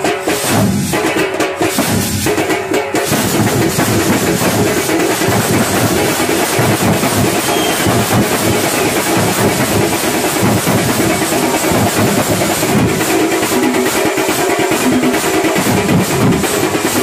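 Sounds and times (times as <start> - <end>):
drums beaten with sticks: 0.0 - 17.0
hand cymbals clashing: 0.0 - 17.0.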